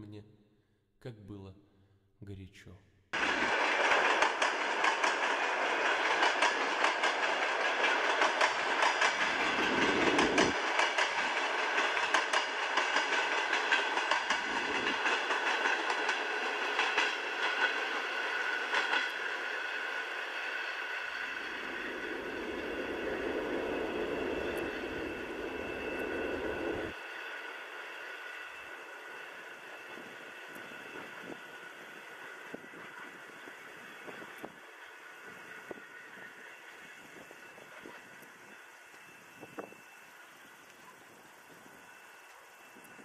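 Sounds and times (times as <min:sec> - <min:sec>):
high ringing of wheels and rails: 0:03.2 - 0:43.0
train wheels clattering on track: 0:03.2 - 0:43.0.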